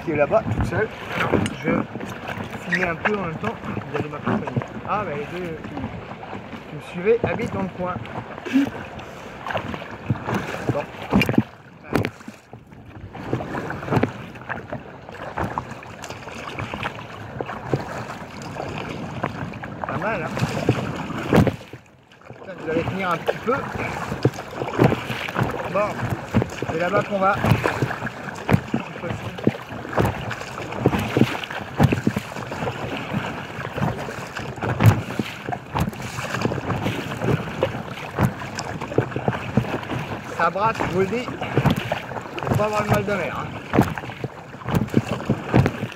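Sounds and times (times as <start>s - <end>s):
waves splashing against kayak: 0.0s - 45.9s
wind buffeting microphone: 0.0s - 45.9s.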